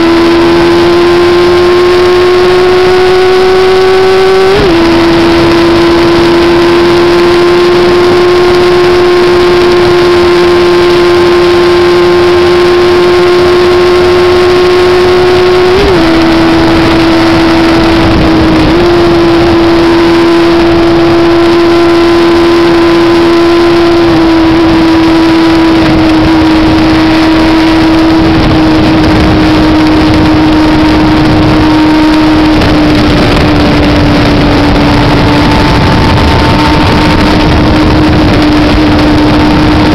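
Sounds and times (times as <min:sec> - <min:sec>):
heavy wind rush: 0:00.0 - 0:39.9
motorcycle engine at high revs: 0:00.0 - 0:39.9.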